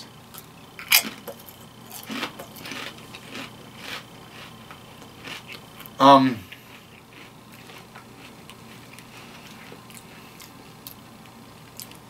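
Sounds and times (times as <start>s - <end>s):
potato chips crunching: 0.3s - 6.0s, 6.9s - 11.0s.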